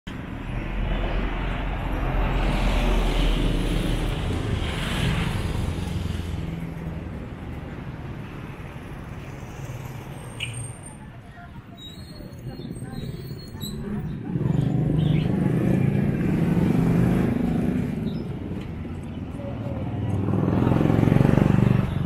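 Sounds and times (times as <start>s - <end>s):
passing motorcycles and vehicles: 0.1s - 22.0s.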